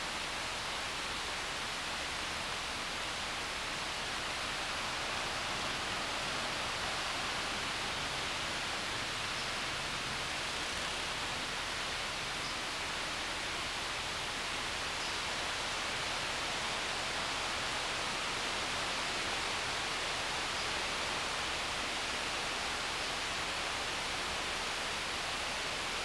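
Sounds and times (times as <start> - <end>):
mountain river rushing: 0.0 - 26.0.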